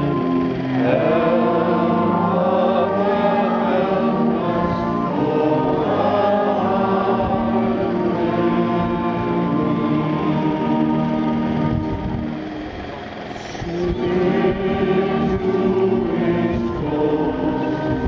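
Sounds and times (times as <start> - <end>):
crowd singing a hymn: 0.0 - 18.0.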